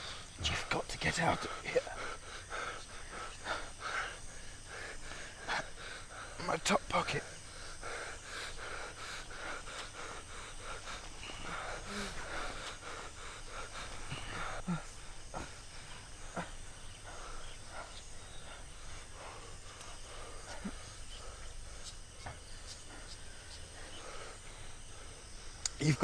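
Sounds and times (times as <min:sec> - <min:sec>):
quiet outdoor background noise: 0:00.0 - 0:26.0.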